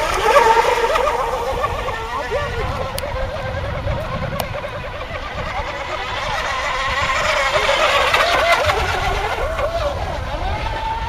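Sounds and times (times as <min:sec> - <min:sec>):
model boat motor whining: 0:00.0 - 0:11.0.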